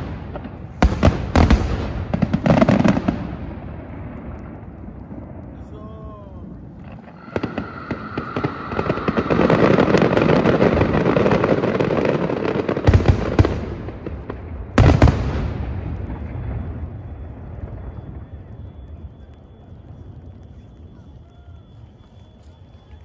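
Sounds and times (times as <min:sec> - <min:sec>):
fireworks crackling: 0:00.0 - 0:23.0
loud fireworks bangs: 0:00.0 - 0:23.0.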